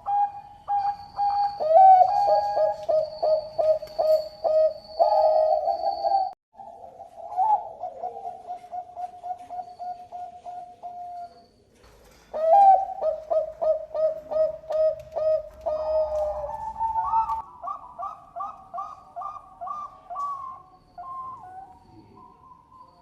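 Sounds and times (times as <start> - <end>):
dove cooing: 0.0 - 11.5, 12.2 - 23.0.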